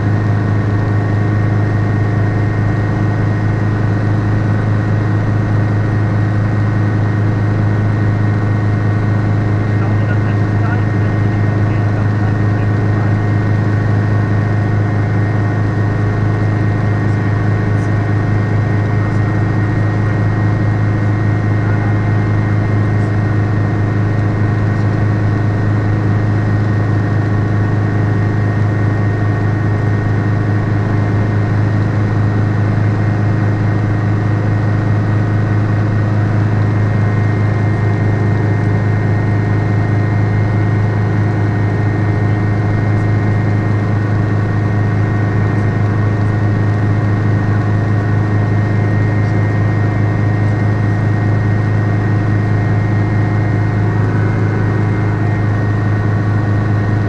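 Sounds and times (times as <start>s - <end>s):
helicopter cockpit drone: 0.0s - 57.0s.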